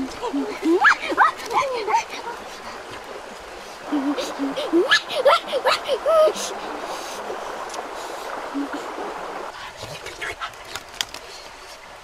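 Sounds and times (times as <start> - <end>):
flowing stream: 0.0 - 12.0.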